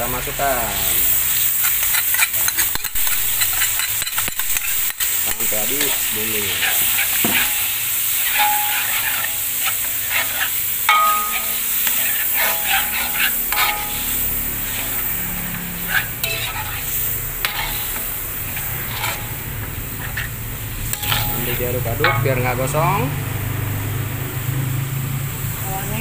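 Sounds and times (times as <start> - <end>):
paste sizzling in hot oil: 0.0 - 26.0
metal spatula scraping and clinking: 1.6 - 22.7.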